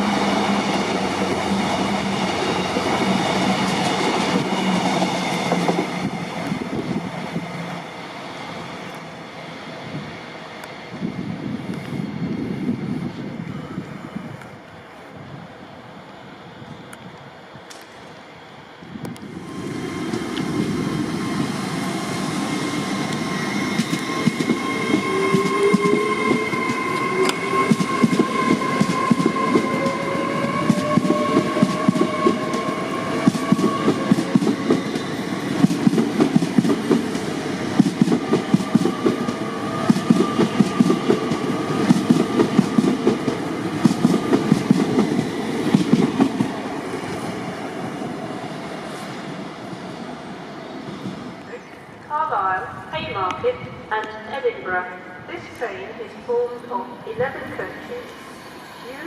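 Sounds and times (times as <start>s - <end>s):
train whine: 0.0s - 59.0s.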